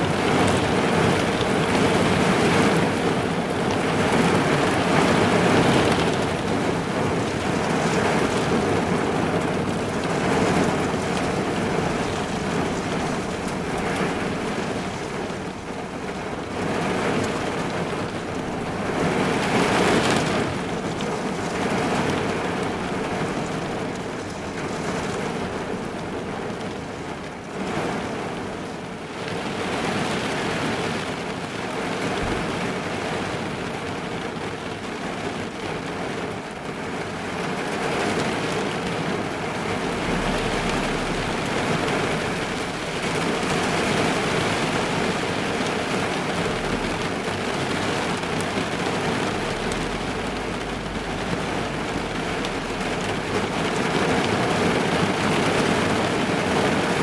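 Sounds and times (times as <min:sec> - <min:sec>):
heavy rain on a car roof: 0:00.0 - 0:57.0.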